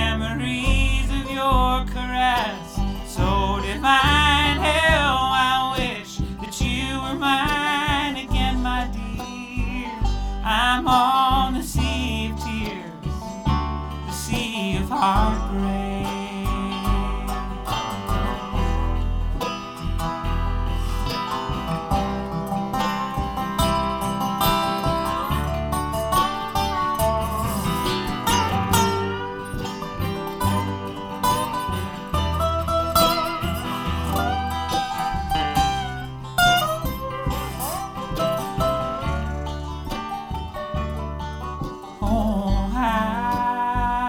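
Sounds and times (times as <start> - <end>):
banjo: 0.0 - 44.0
bass line: 0.0 - 44.0
picked guitar: 0.0 - 44.0.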